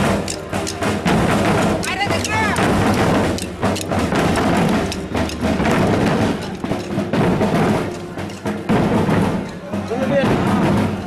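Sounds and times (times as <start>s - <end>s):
bass drums: 0.0s - 11.0s
snare drums: 0.0s - 11.0s.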